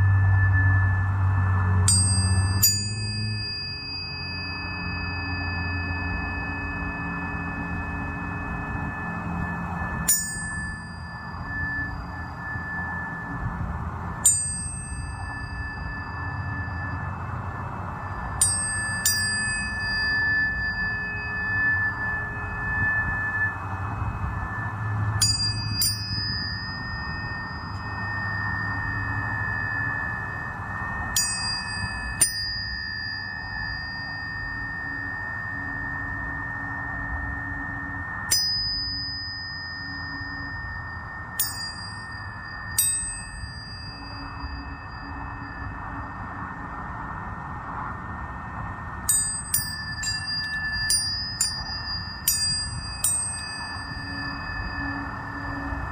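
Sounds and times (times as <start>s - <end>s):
steady ringing tone: 0.0s - 55.9s
tuning fork strikes: 0.0s - 55.9s.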